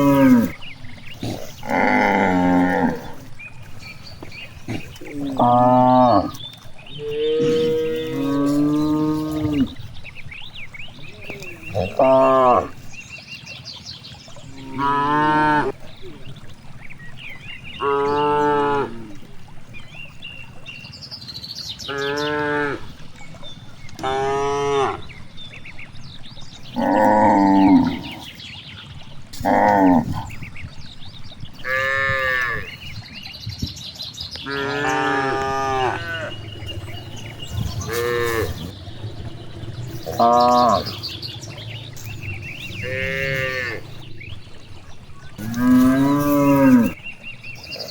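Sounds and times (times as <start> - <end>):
cows mooing: 0.0 - 13.0, 14.5 - 19.8, 21.9 - 28.3, 29.2 - 30.5, 31.5 - 32.9, 34.4 - 47.0.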